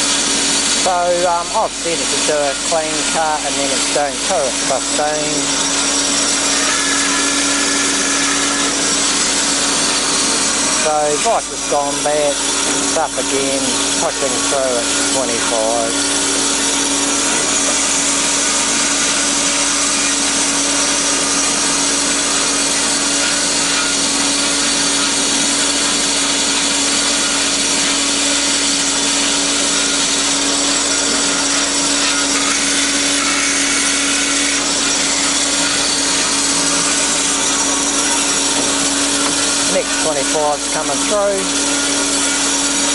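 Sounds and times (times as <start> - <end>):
bandsaw cutting wood: 0.0 - 42.9.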